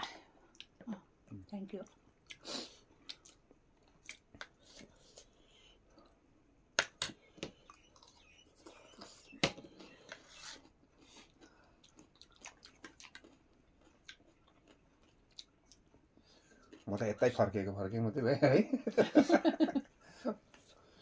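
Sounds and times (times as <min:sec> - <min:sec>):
people chewing food: 0:00.0 - 0:17.6, 0:19.6 - 0:21.0.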